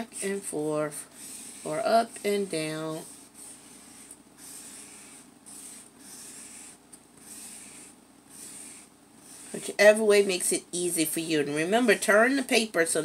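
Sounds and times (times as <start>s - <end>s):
marker rubbing on paper: 0.0s - 12.8s.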